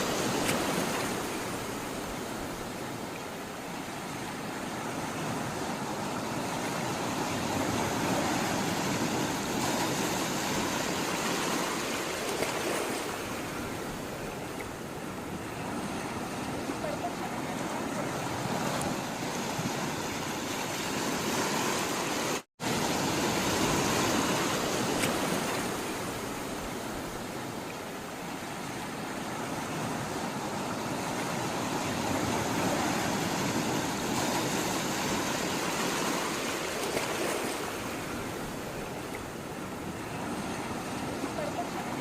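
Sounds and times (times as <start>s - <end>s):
sea water rushing: 0.0s - 42.0s.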